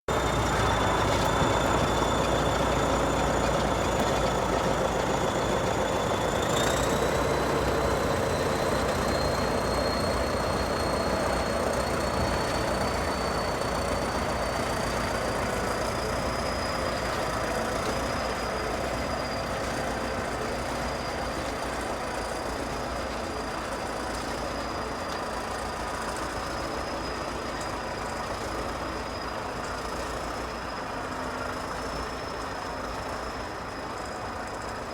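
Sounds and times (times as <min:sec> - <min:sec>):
bulldozer diesel engine under load: 0:00.0 - 0:34.9.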